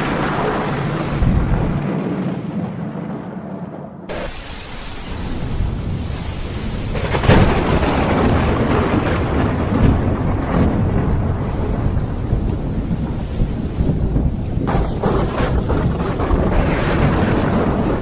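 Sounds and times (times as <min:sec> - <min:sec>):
heavy rain hiss: 0:00.0 - 0:01.8, 0:04.1 - 0:18.0
loud thunderclap: 0:00.0 - 0:04.3, 0:05.1 - 0:18.0
thunder rumbling: 0:00.0 - 0:18.0.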